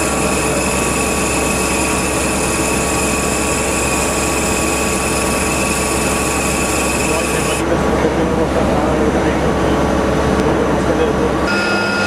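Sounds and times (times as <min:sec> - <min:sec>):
machine whine: 0:00.0 - 0:12.0.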